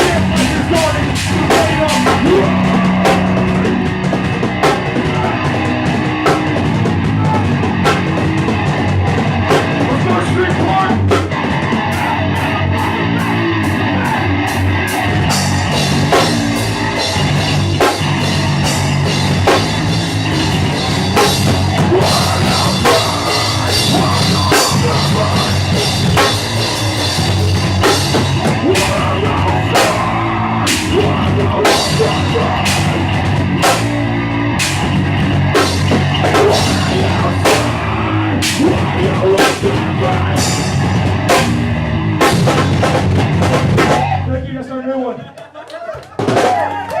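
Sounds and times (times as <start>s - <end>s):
rock band playing: 0.0s - 44.6s, 46.1s - 47.0s.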